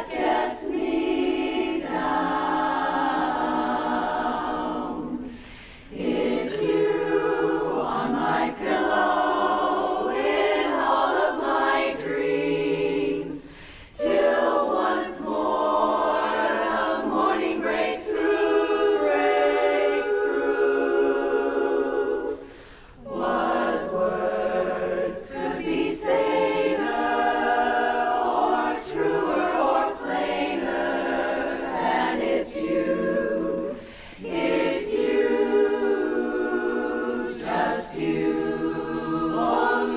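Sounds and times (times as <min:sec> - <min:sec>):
women's chorus singing a cappella: 0:00.0 - 0:39.9.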